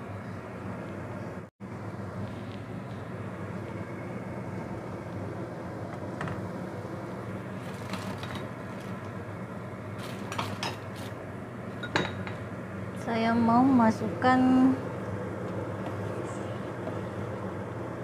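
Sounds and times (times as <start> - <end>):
gas burner humming: 0.0 - 18.0.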